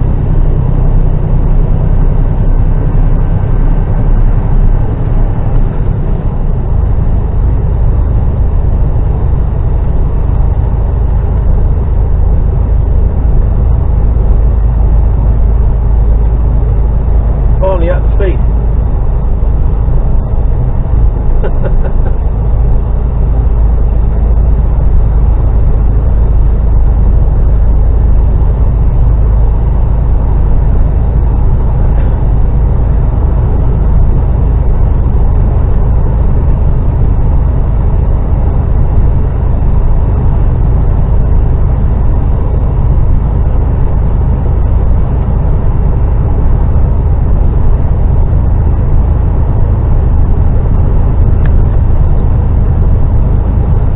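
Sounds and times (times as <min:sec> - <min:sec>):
lorry diesel engine rumble: 0:00.0 - 0:53.9
road noise inside cab: 0:00.0 - 0:53.9.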